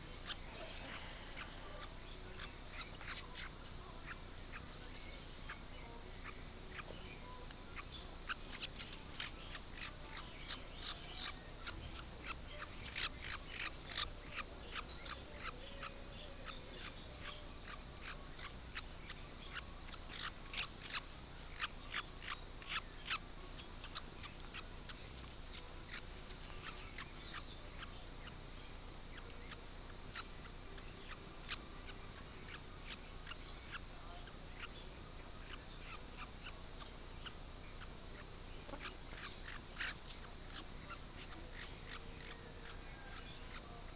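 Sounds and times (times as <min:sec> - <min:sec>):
parrot chick chirping: 0:00.0 - 0:43.9.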